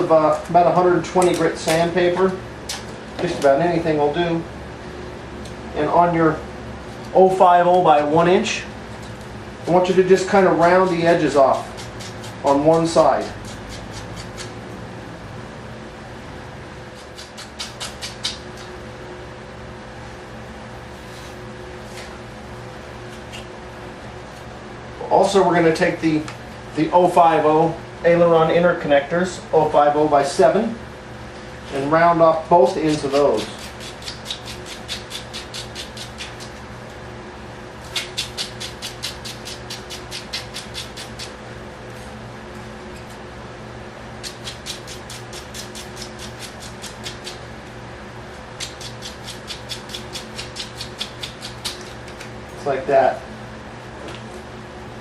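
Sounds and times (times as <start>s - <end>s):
steady fan hum: 0.0s - 55.0s.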